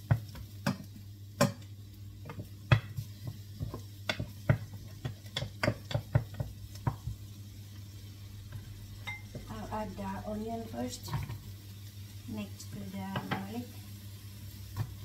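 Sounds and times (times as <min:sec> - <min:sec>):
garlic sizzling: 0:00.0 - 0:15.0.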